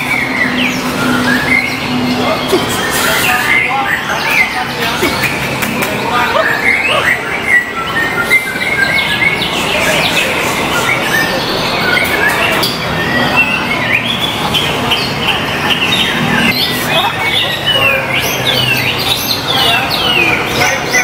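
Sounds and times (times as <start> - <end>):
other songbirds singing: 0.0 - 21.0.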